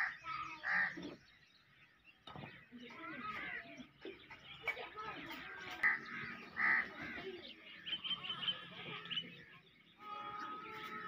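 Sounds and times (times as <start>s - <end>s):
farmyard birds calling: 0.0s - 11.0s.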